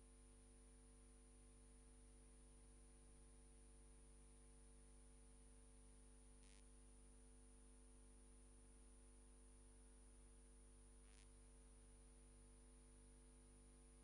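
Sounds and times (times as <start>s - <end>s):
faint electrical hum: 0.0s - 7.8s, 8.8s - 14.0s.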